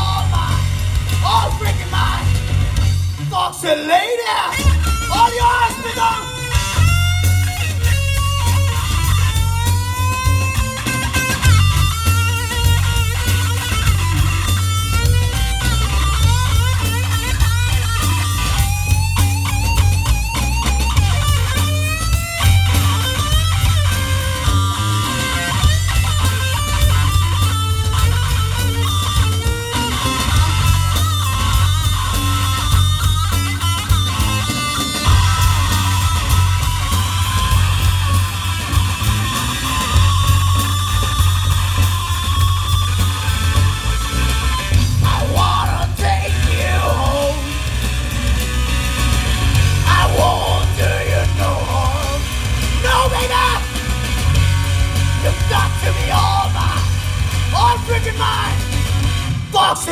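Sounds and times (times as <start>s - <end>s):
electric guitar lead: 0.0s - 3.3s, 4.5s - 59.9s
bass guitar: 0.0s - 59.9s
drum kit: 0.0s - 59.9s.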